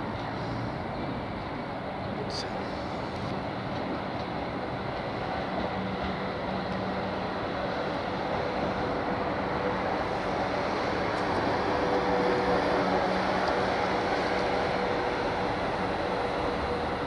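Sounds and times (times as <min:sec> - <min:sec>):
electric train equipment humming: 0:00.0 - 0:17.0.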